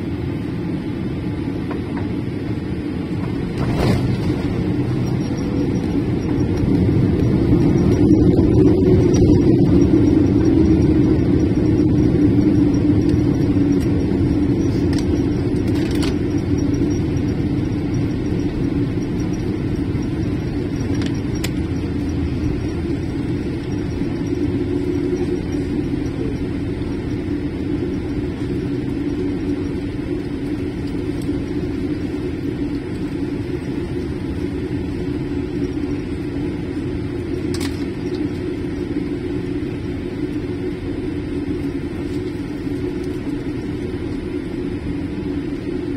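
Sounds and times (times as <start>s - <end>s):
aircraft cabin rumble: 0.0s - 45.9s.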